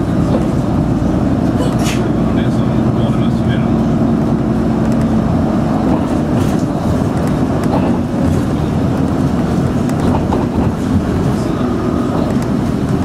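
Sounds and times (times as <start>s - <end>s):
bus engine and tyres rumbling: 0.0s - 13.0s.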